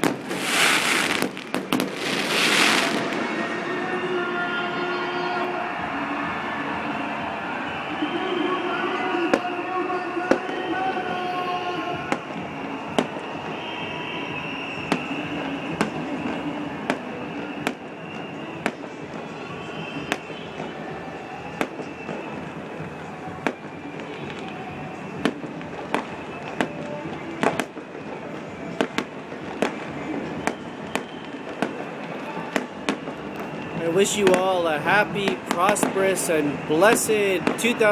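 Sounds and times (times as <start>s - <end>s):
fireworks bangs: 0.0s - 37.9s.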